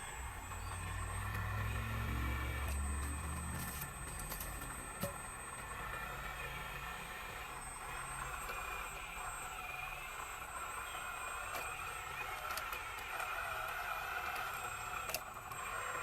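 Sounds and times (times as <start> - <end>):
model excavator motor whine: 0.0 - 16.0.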